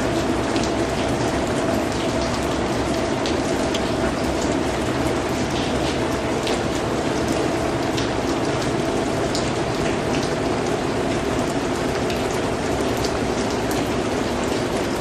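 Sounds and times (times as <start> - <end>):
steady rain patter: 0.0 - 15.0.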